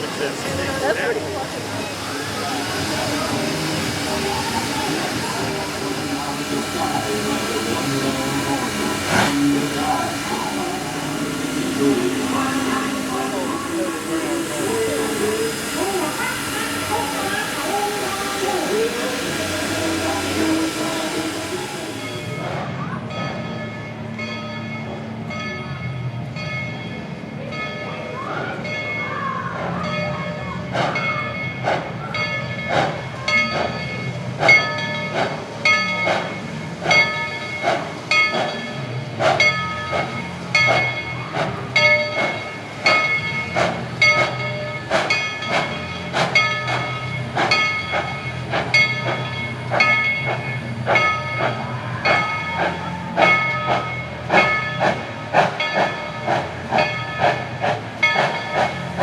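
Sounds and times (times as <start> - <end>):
locomotive bell ringing: 0.0 - 59.0
low train rumble: 0.0 - 59.0.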